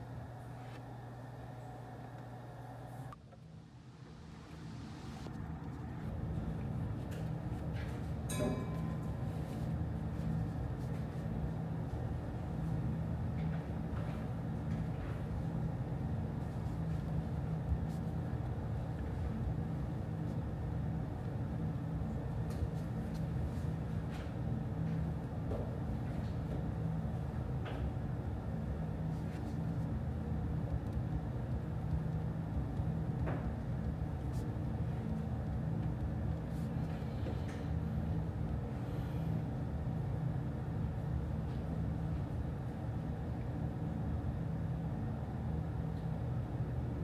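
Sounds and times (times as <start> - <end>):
low room hum: 0.0 - 47.0.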